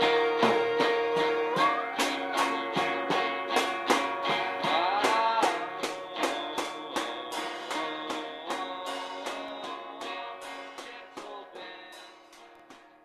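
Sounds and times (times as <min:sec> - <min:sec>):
strummed guitar music: 0:00.0 - 0:13.0.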